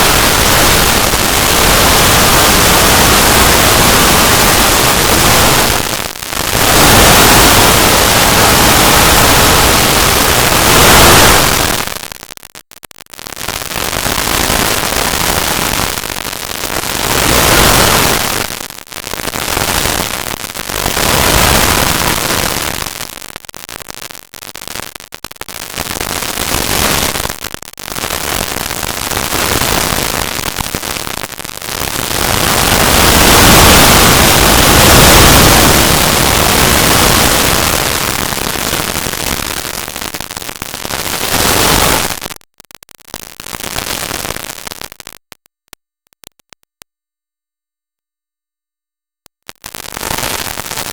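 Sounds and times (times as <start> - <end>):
loud harsh static noise: 0.0 - 45.2, 49.5 - 50.9.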